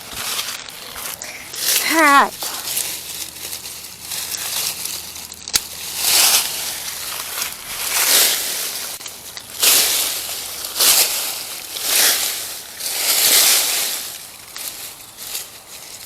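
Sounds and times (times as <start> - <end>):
vines rustling and crunching: 0.0 - 1.8, 2.5 - 16.0.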